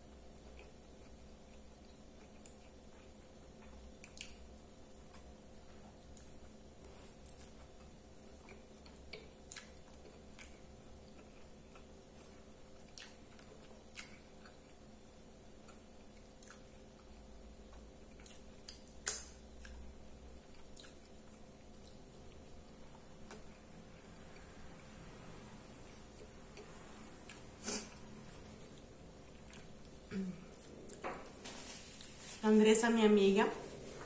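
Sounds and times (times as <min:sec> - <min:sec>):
chewing soft bread: 0:00.0 - 0:32.2.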